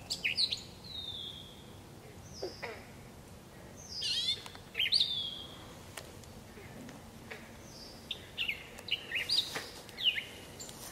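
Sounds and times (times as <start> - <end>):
songbirds singing: 0.0 - 10.9.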